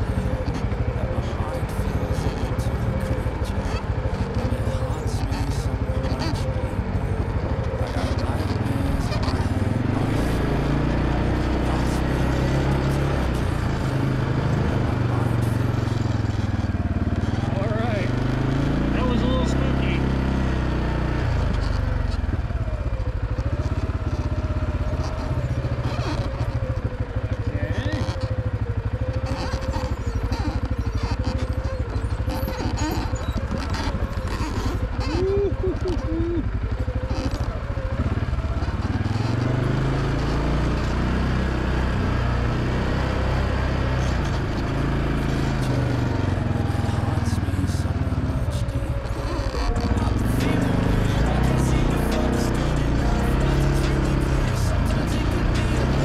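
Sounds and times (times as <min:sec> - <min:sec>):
atv engine pulsing: 0:00.0 - 0:56.0.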